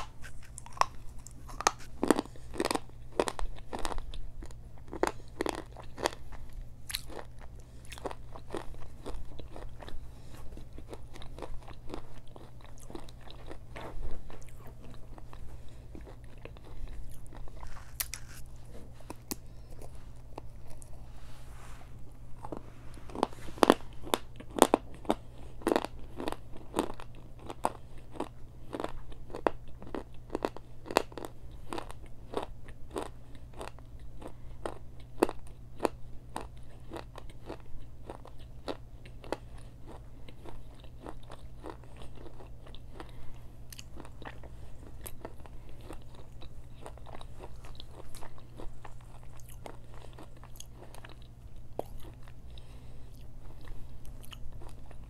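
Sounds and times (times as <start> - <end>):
crunching and chewing: 0.0 - 21.2, 22.1 - 55.0.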